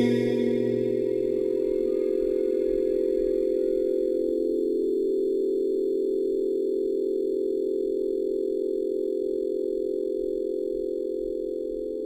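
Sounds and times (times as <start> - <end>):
faint high steady tones: 0.0 - 12.0
sustained electronic tones droning: 0.0 - 12.0.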